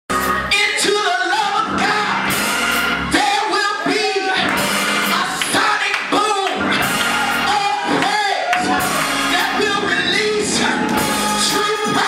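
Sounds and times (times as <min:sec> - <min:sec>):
drums: 0:00.1 - 0:12.0
organ: 0:00.1 - 0:12.0
person singing: 0:00.2 - 0:12.0.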